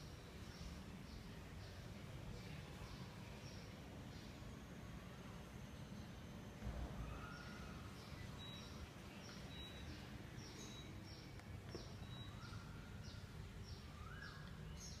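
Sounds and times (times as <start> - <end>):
faint bird chirping: 0.0 - 15.0
low steady hum: 0.0 - 15.0.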